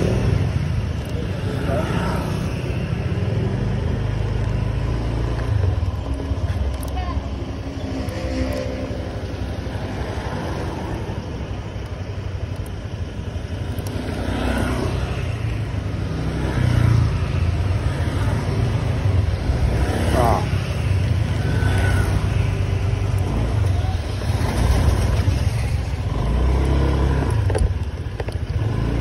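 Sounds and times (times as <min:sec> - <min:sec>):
scooter engines rumbling: 0:00.0 - 0:29.0
scooters revving: 0:00.0 - 0:29.0.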